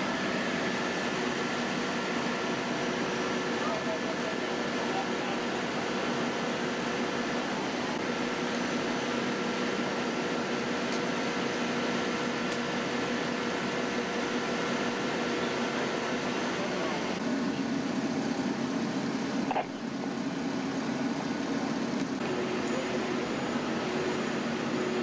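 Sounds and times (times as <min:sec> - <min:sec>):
idling diesel engine drone: 0:00.0 - 0:25.0.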